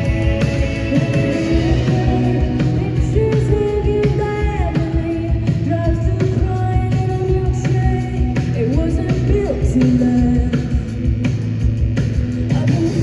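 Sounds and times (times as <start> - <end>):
woman singing: 0.0 - 11.1, 12.4 - 13.0
live rock band: 0.0 - 13.0.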